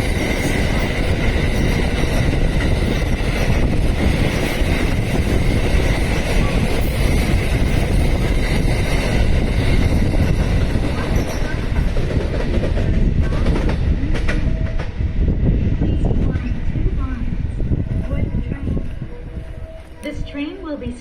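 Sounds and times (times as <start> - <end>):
electric train rumbling: 0.0 - 21.0
wind buffeting microphone: 0.0 - 21.0.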